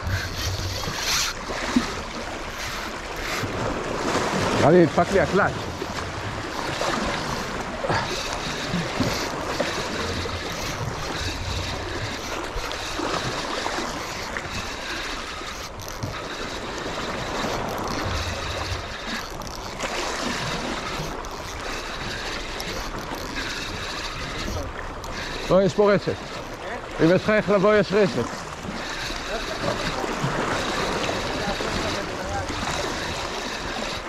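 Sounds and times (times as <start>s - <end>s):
sea waves splashing on shore: 0.0s - 34.0s.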